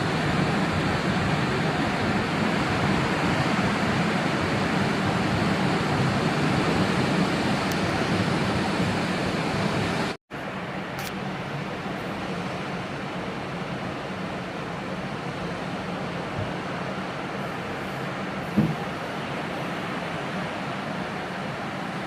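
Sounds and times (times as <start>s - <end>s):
sea surf washing on shore: 0.0s - 22.0s.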